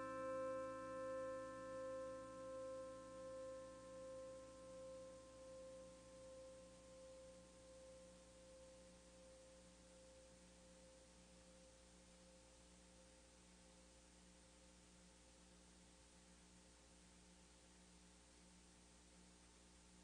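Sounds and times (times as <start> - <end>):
faint steady pure tone: 0.0 - 20.0.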